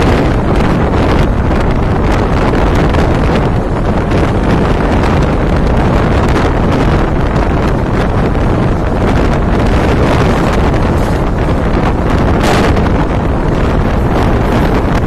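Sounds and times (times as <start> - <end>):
train coaches rumbling on track: 0.0 - 15.0
wind buffeting microphone: 0.0 - 15.0.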